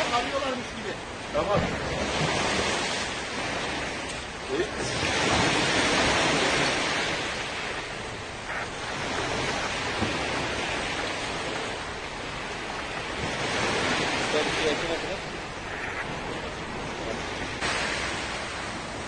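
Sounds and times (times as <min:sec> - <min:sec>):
sea waves: 0:00.0 - 0:19.0
wind blowing across microphone: 0:00.0 - 0:19.0.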